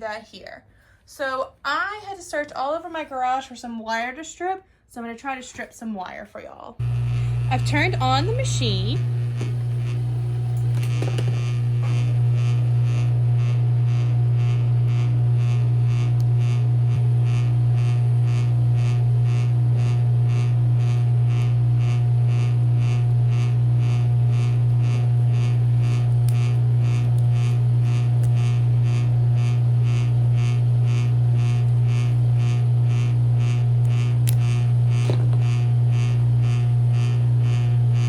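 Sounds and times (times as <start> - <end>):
electric motor humming: 6.8 - 38.0.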